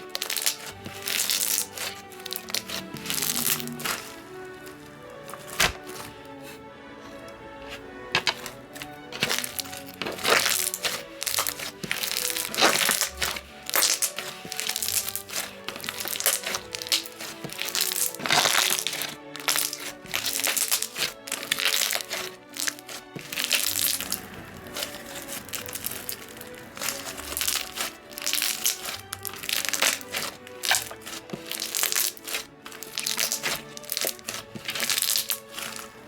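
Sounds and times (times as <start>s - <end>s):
slime popping and crackling: 0.0s - 6.6s, 8.2s - 36.0s
background music: 0.0s - 36.0s.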